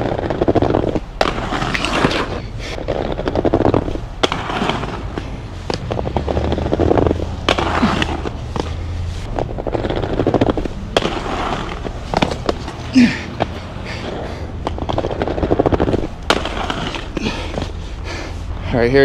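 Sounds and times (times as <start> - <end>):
skates clacking on ground: 0.0 - 18.4
inline skate wheels rolling on concrete: 0.0 - 19.0.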